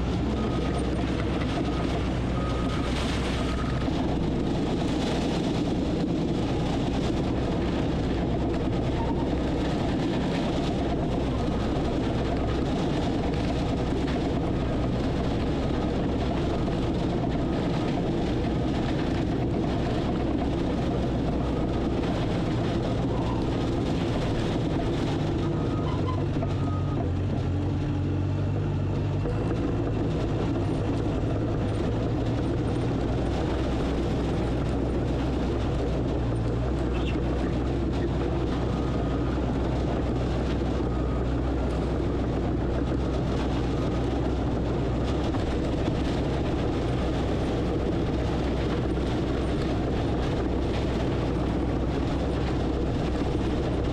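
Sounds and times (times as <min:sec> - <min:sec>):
diesel engine of earthmoving equipment: 0:00.0 - 0:53.9.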